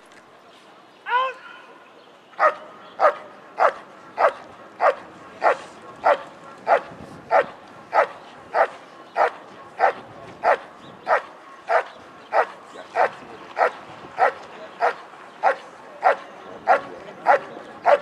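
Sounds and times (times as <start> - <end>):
dog barking rhythmically: 2.4 - 18.0.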